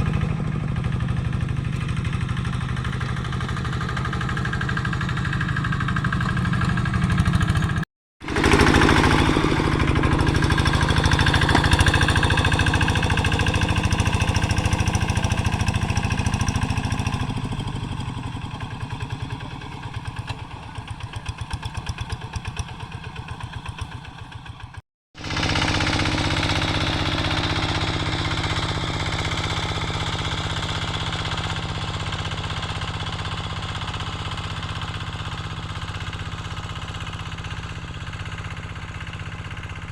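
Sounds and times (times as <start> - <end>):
hand tractor diesel engine chugging: 0.0 - 39.9.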